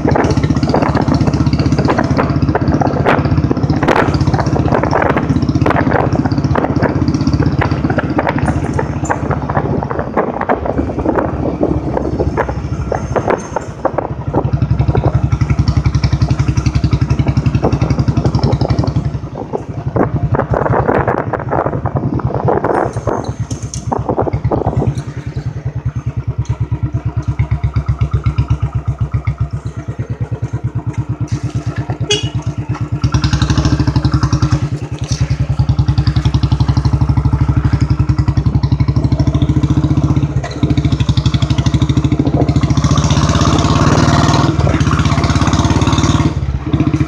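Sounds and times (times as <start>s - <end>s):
motorcycle engine pulsing exhaust: 0.0s - 47.0s.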